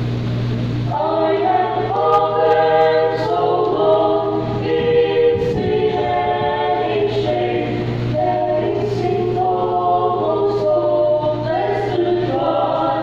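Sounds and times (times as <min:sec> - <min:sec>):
steady low hum: 0:00.0 - 0:13.0
vocal quartet singing in harmony: 0:00.9 - 0:13.0.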